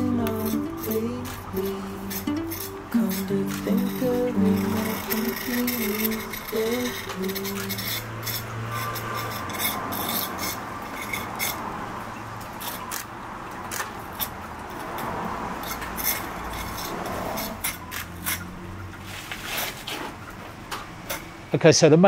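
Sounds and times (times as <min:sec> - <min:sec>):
jointing iron scraping mortar: 0:00.0 - 0:20.2.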